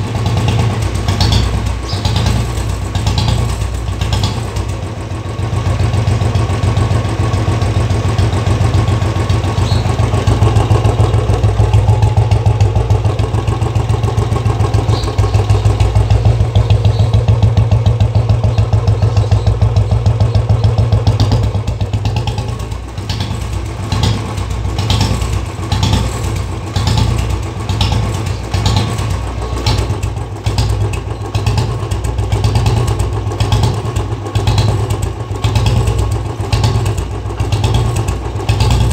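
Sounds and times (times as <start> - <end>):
motorcycle exhaust thumping: 0.0 - 38.9.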